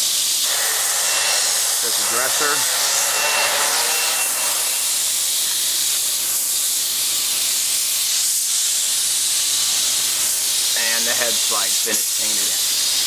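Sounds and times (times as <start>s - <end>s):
rushing air hiss: 0.0s - 13.0s.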